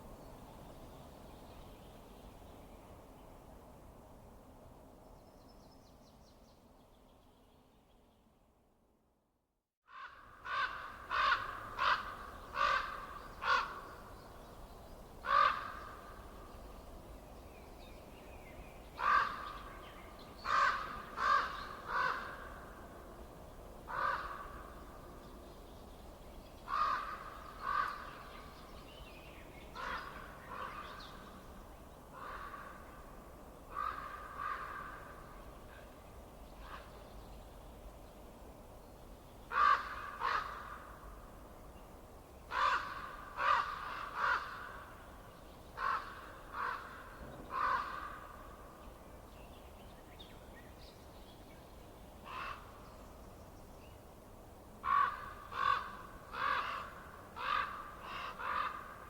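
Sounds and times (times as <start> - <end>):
faint low hiss: 11.6 - 59.0.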